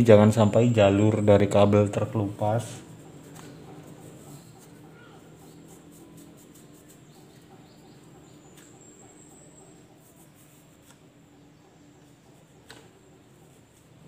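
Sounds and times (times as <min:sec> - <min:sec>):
soft rubbing: 0:02.0 - 0:14.0.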